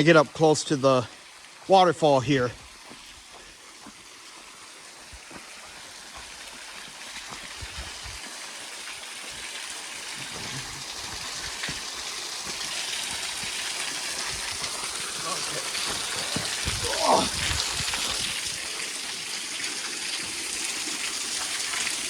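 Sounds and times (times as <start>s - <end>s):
waterfall gushing: 0.0s - 22.0s.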